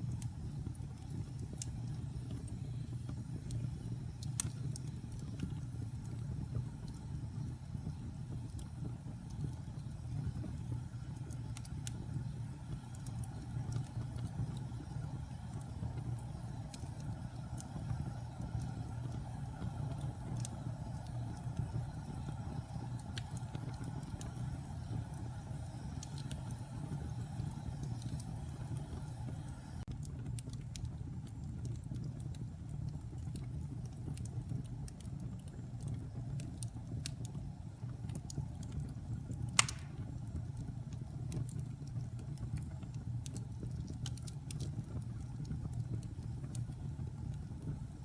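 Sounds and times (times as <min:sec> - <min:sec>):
fire flames rumbling: 0:00.0 - 0:48.0
wood fire crackling and popping: 0:00.0 - 0:48.0.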